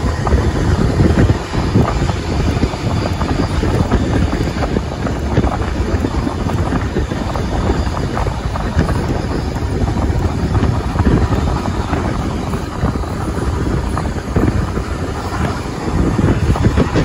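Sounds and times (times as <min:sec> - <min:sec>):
moving train running noise: 0:00.0 - 0:17.0
wind buffeting microphone: 0:00.0 - 0:17.0.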